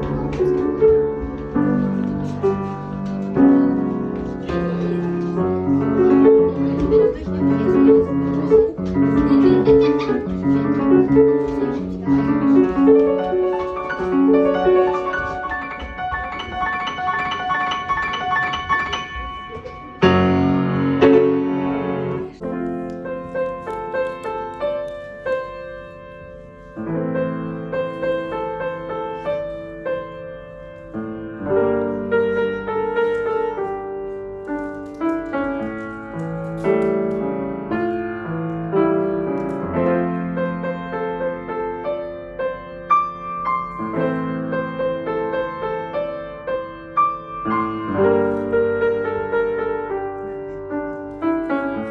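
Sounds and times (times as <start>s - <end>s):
piano melody over chords: 0.0s - 51.9s.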